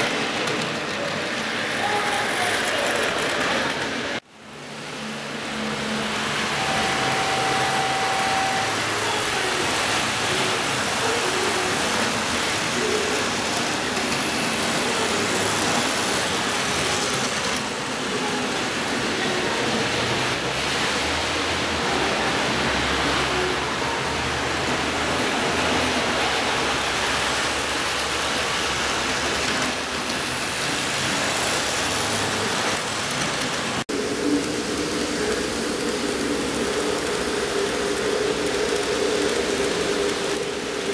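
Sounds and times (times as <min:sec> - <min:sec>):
model trains whirring on track: 0:00.0 - 0:40.9.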